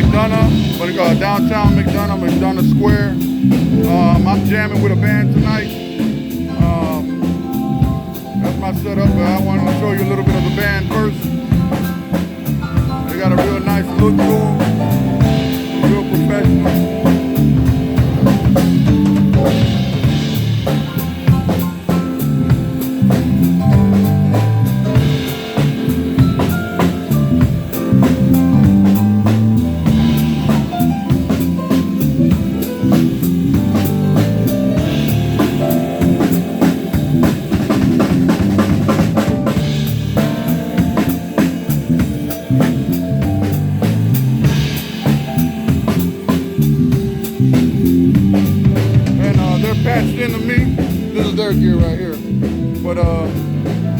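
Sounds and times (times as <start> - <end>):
bass notes: 0.0 - 53.9
kick drum and snare beat: 0.0 - 53.9
live band playing: 0.0 - 53.9.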